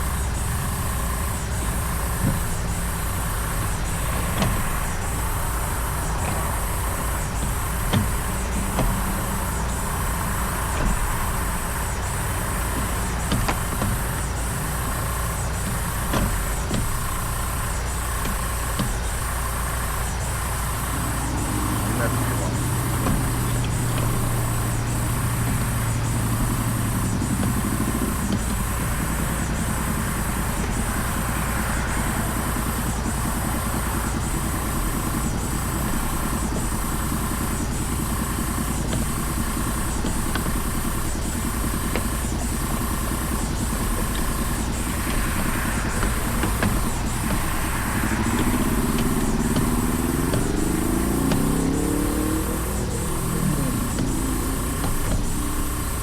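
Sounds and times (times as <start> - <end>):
engine revving up: 0.0 - 56.0
road and wind noise: 0.0 - 56.0
vehicle engine running: 0.0 - 56.0.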